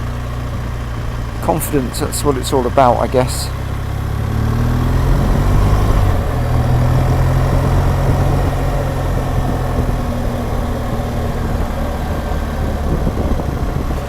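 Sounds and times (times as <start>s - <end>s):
motorcycle engine at low speed: 0.0s - 14.0s
wind and road noise: 0.0s - 14.0s.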